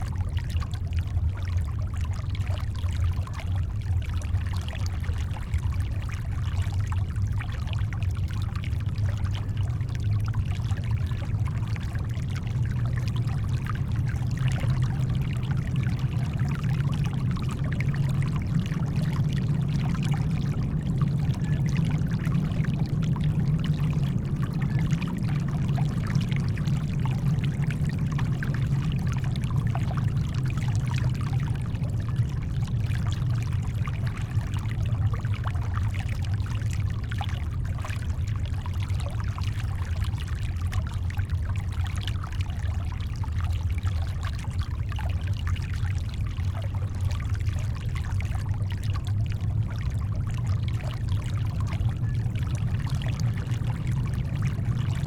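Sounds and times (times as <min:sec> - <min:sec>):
deep brown noise rumble: 0:00.0 - 0:55.0.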